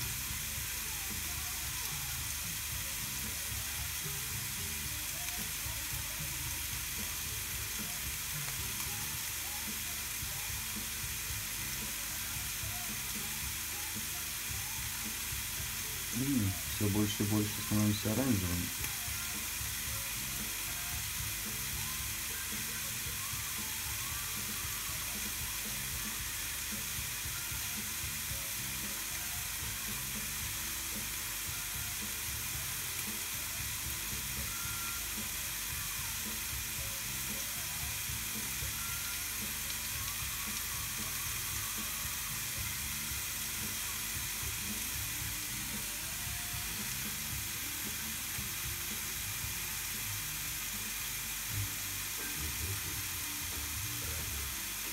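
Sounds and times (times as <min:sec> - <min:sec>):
steak sizzling on contact grill: 0:00.0 - 0:54.9.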